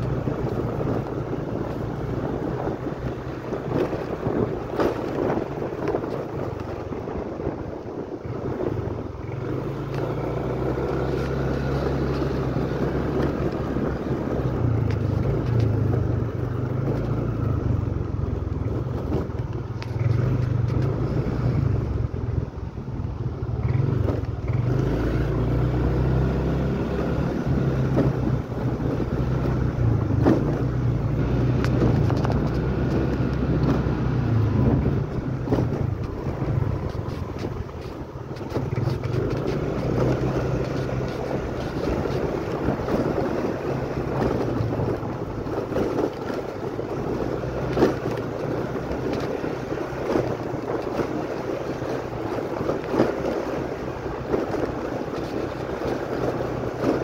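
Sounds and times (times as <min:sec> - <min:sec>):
small motorcycle engine running: 0:00.0 - 0:57.0
wind buffeting microphone: 0:00.0 - 0:57.0.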